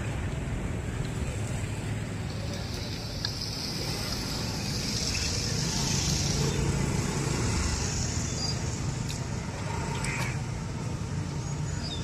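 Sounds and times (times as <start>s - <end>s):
traffic hiss: 0.0s - 12.0s
vehicle engines running: 0.0s - 12.0s.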